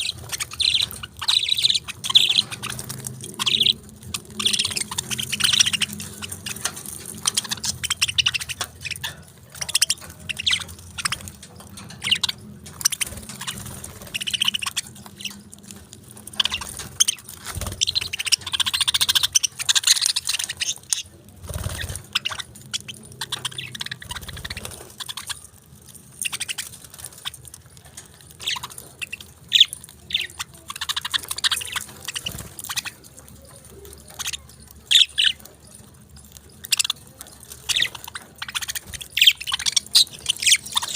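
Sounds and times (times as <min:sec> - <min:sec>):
parakeets chirping: 0:00.0 - 0:40.9.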